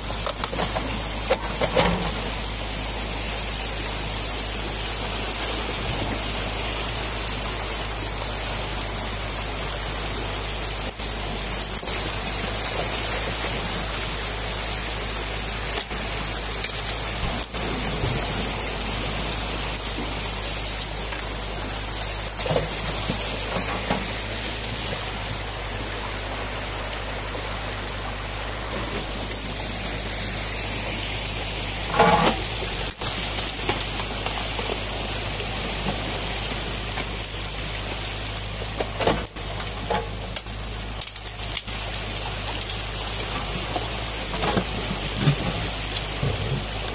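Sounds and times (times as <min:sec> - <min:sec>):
water rushing and churning: 0:00.0 - 0:46.9.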